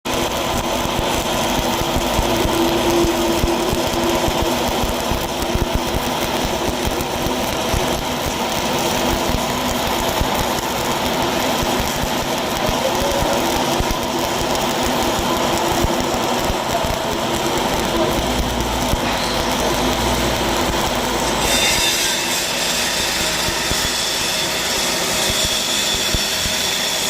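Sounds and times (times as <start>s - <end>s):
machine hum: 0.1s - 27.0s
welding arc crackling: 0.1s - 27.0s.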